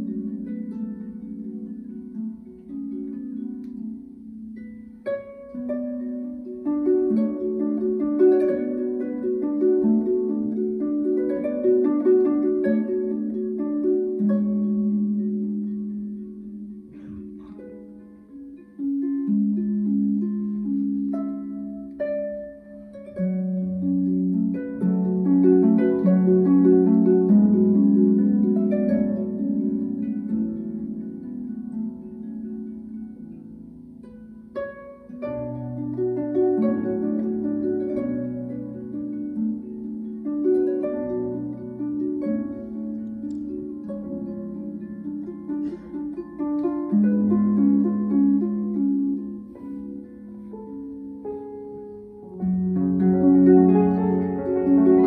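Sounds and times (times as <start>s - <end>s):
harp plucked figures: 0.0s - 55.0s.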